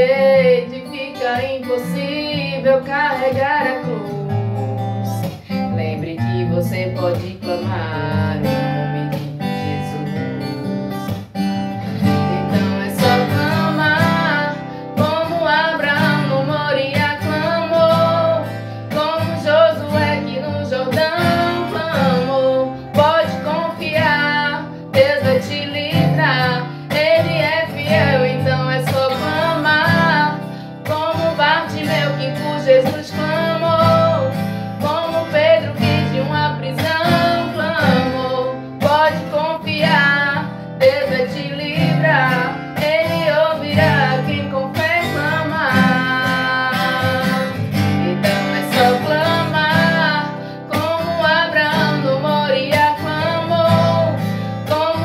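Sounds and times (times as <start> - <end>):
acoustic guitar strumming: 0.0 - 55.0
woman singing: 0.0 - 55.0.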